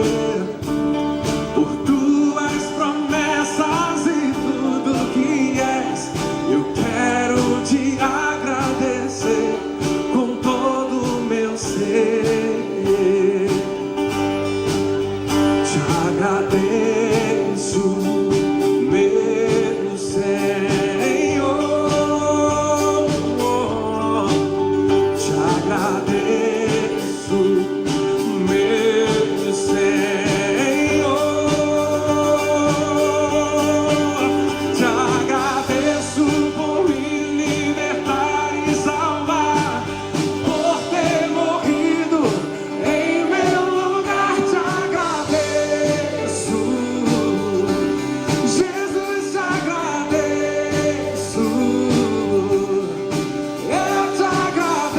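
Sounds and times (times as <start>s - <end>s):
instrumental accompaniment: 0.0s - 54.9s
person singing gospel song: 0.0s - 54.9s.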